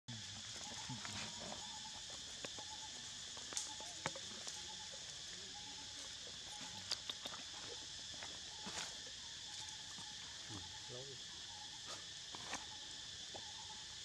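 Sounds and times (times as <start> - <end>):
insect chorus buzzing: 0.1 - 14.0.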